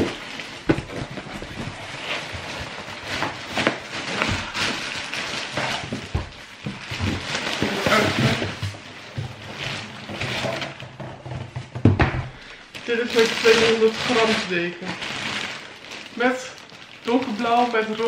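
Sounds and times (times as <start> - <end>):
plastic packaging crinkling: 0.0 - 11.5, 12.3 - 18.0.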